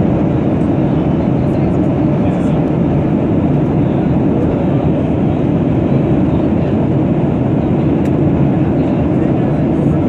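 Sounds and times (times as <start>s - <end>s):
airliner cabin roar: 0.0s - 10.0s.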